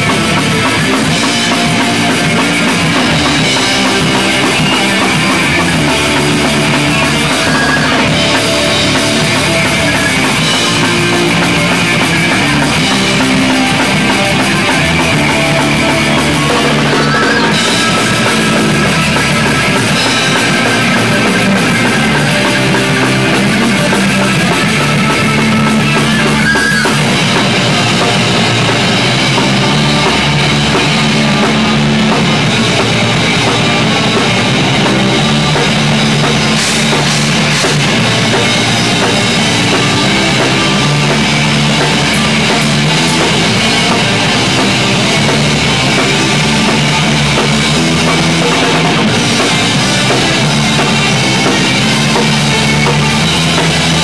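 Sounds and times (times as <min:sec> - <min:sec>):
bass guitar: 0:00.0 - 0:54.0
drum kit with cymbals: 0:00.0 - 0:54.0
electric guitars: 0:00.0 - 0:54.0.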